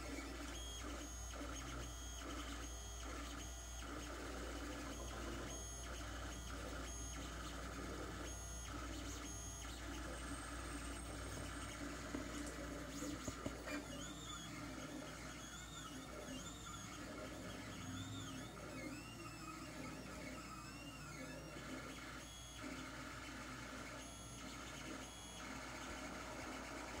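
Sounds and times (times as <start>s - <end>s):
printer steady hum: 0.0s - 27.0s.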